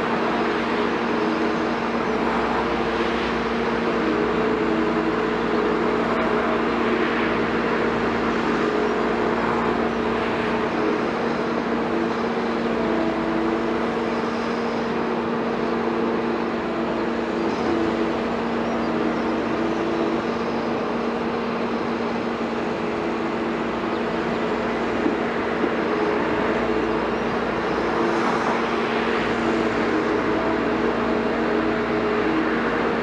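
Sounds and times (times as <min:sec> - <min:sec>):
excavator diesel engine humming: 0:00.0 - 0:33.0.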